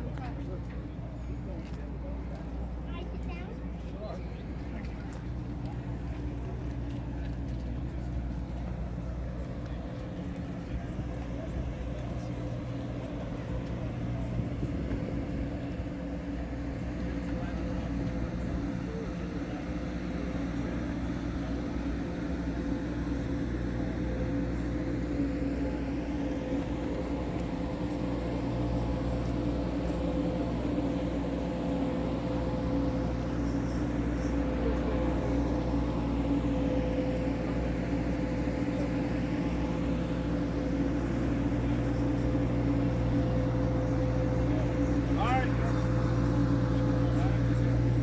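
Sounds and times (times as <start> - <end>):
engine droning hum: 0.0 - 48.0.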